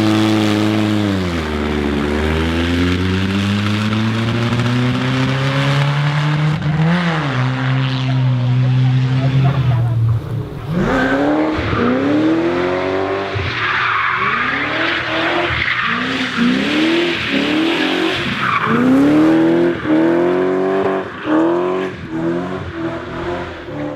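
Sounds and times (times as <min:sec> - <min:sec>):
race car engine revving: 0:00.0 - 0:23.9.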